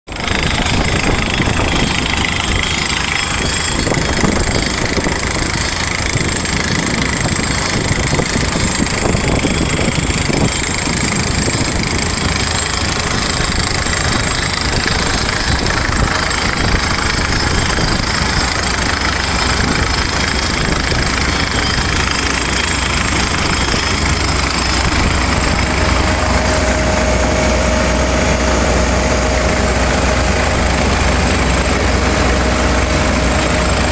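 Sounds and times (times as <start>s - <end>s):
drilling rig engine rumbling: 0.1s - 33.9s
steady whine: 0.1s - 33.9s.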